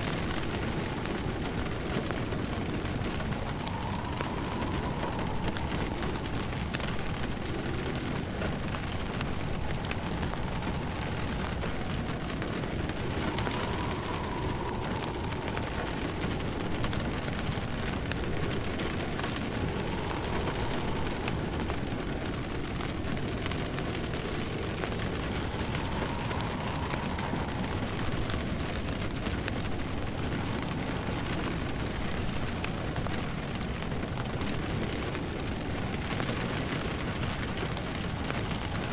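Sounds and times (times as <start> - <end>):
faint wind whistle: 0.0 - 38.9
open fire crackling: 0.0 - 38.9
rain on roof and window: 0.0 - 38.9.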